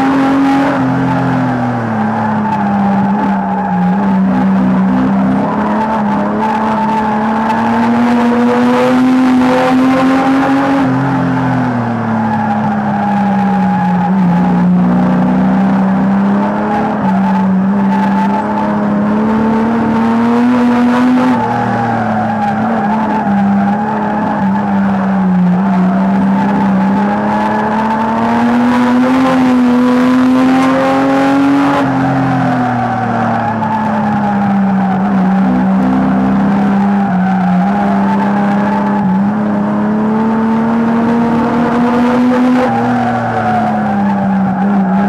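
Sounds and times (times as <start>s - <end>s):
racing car engine running hard: 0.0s - 45.0s.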